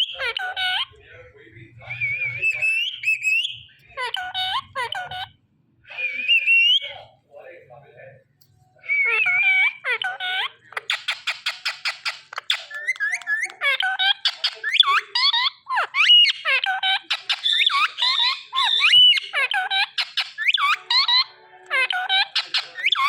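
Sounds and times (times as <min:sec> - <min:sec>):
parrot chirping and squawking: 0:00.0 - 0:01.0, 0:01.9 - 0:05.4, 0:06.0 - 0:06.9, 0:08.9 - 0:23.0
parrot whistling: 0:01.8 - 0:05.3, 0:05.9 - 0:06.9, 0:08.8 - 0:23.0.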